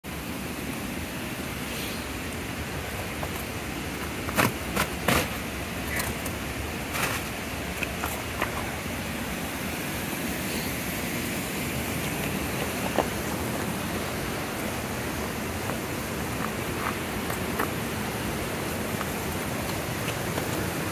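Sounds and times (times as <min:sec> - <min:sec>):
steady rushing noise: 0:00.0 - 0:20.9.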